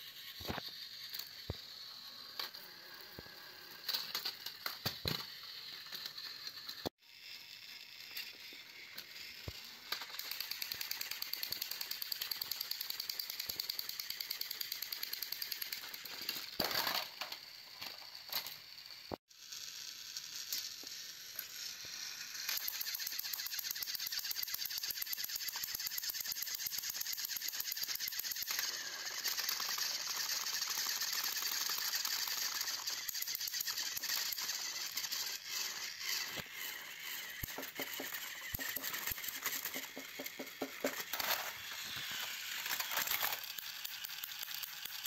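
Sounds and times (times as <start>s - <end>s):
toy train motor whirring: 0.0s - 45.0s.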